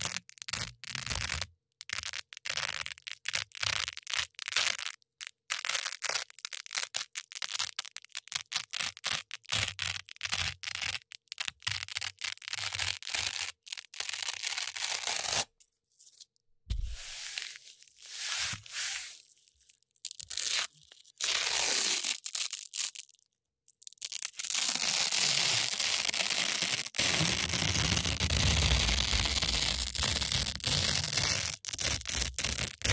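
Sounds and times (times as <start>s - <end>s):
velcro strips ripping: 0.0s - 15.5s, 16.7s - 23.2s, 23.8s - 32.9s.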